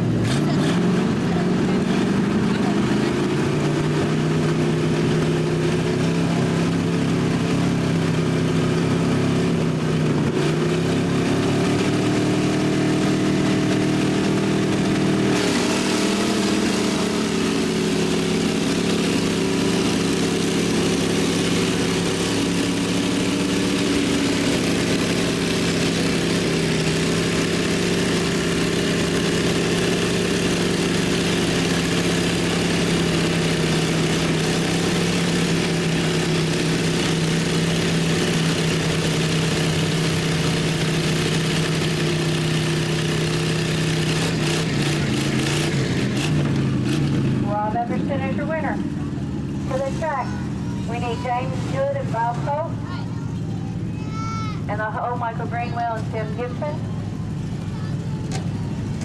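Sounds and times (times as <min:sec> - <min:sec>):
truck engines revving under load: 0:00.0 - 0:59.0.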